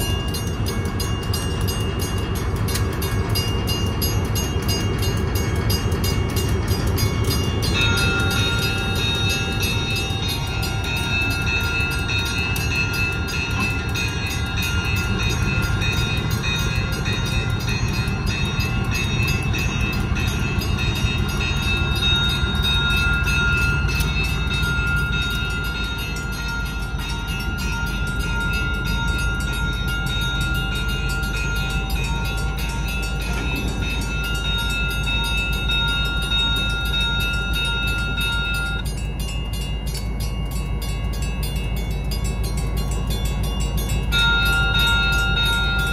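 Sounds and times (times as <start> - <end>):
diesel locomotive engines rumbling: 0.0 - 45.9
railroad crossing bell ringing: 0.0 - 45.9
steady high-pitched tones: 0.0 - 45.9.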